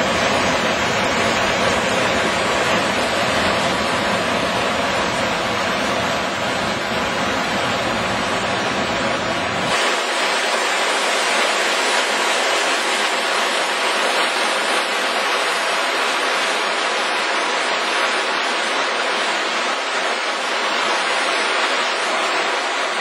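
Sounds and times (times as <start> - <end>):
water rushing down concrete channel: 0.0 - 23.0.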